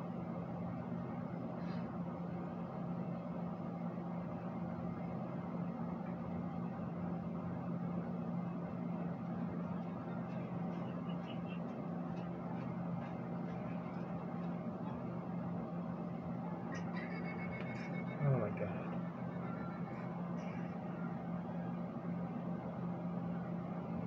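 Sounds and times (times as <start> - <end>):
constant noise: 0.0 - 24.0.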